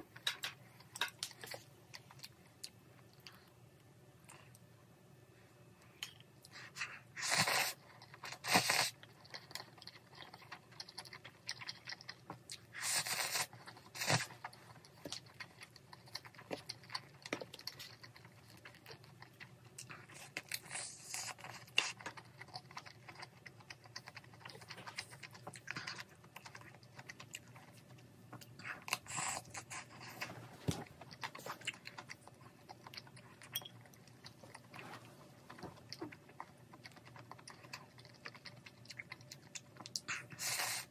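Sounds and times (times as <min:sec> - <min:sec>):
chewing: 0:05.8 - 0:40.9.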